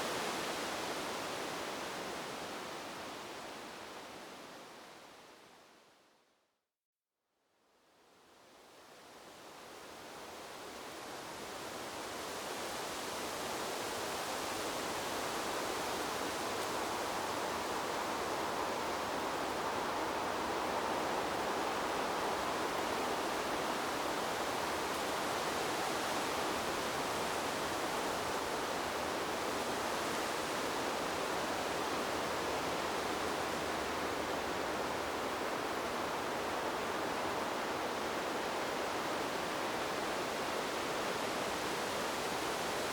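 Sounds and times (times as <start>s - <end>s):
wind through bamboo leaves: 0.0s - 6.1s, 7.8s - 42.9s.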